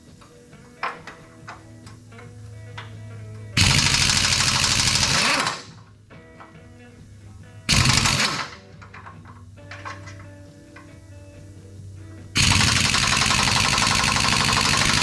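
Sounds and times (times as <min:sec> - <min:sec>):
faint background music: 0:00.0 - 0:15.0
impact wrench hammering on bolt: 0:00.6 - 0:06.7, 0:07.7 - 0:11.0, 0:12.4 - 0:15.0.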